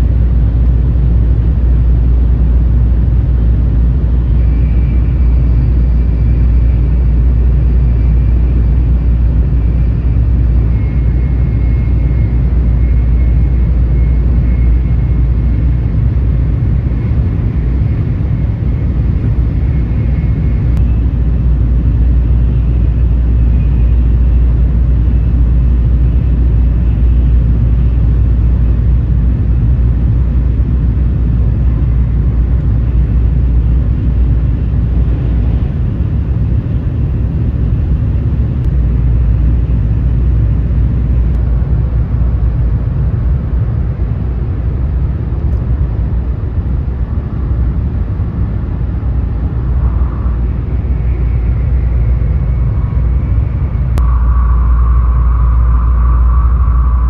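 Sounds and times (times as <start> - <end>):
faint high whine: 0.0 - 57.0
train interior rumble: 0.0 - 57.0.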